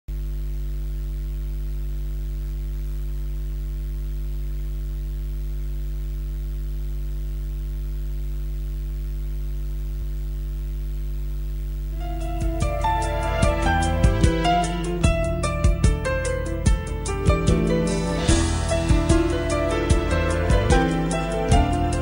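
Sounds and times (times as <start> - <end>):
electrical mains hum: 0.1 - 22.0
faint hiss: 0.2 - 22.0.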